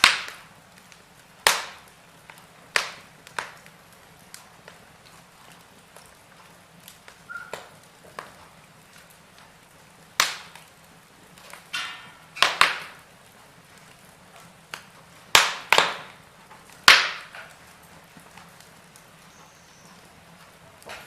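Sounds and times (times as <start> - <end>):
faint steady hiss: 0.0 - 21.0
wood fire crackling and popping: 0.0 - 21.0.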